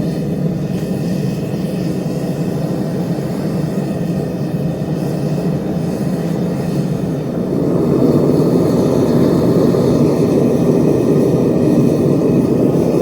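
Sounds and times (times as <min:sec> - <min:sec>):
furnace burner roaring: 0:00.0 - 0:13.0.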